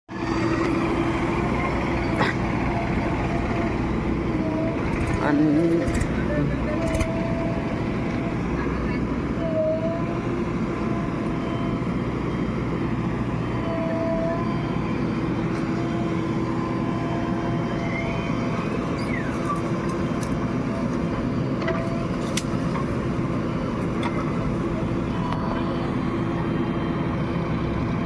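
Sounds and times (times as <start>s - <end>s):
heavy diesel machinery running: 0.1s - 28.0s.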